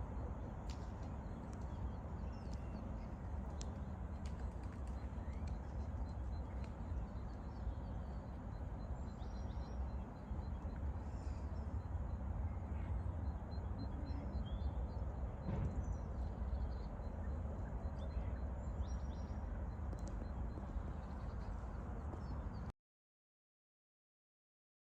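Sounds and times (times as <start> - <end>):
small songbirds chirping: 0.0 - 22.7.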